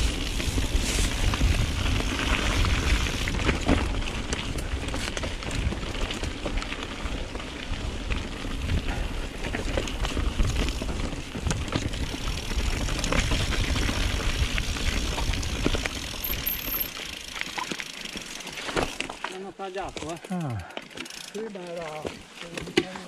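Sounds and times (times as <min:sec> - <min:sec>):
bike rattling: 0:00.0 - 0:23.0
bike tyres crunching on trail: 0:00.0 - 0:23.0.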